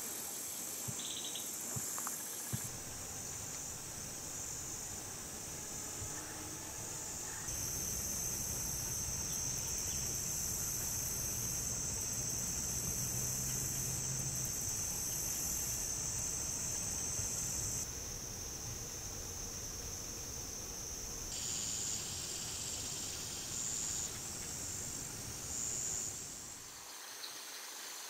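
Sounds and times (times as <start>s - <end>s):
insect chorus trilling: 0.2s - 28.0s.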